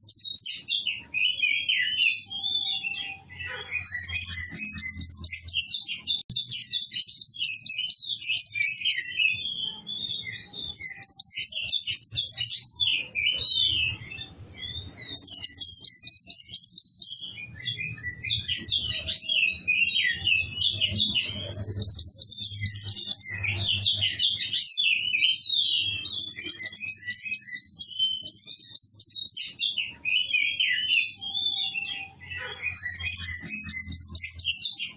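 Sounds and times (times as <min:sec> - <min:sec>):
songbird singing trills: 0:00.0 - 0:34.9.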